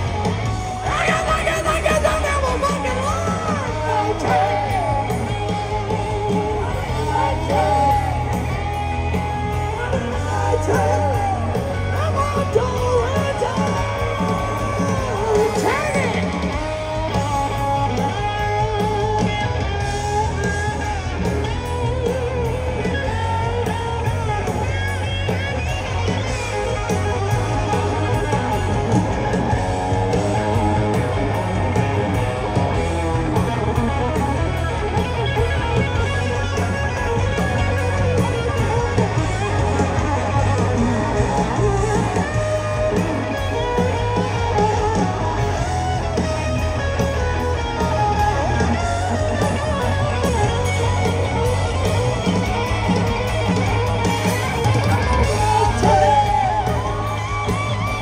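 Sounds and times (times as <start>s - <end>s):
bass guitar: 0.0s - 58.0s
drums: 0.0s - 58.0s
electric guitar solo: 0.0s - 58.0s.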